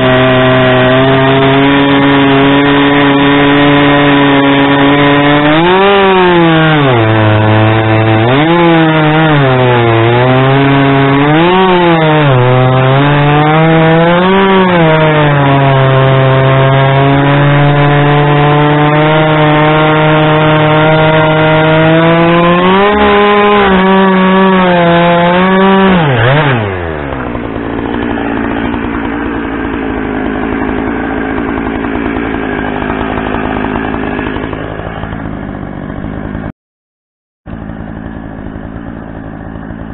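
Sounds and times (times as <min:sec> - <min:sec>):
chainsaw cutting through log: 0:00.0 - 0:36.5, 0:37.5 - 0:39.9
chainsaw engine idling: 0:00.0 - 0:36.5, 0:37.5 - 0:39.9.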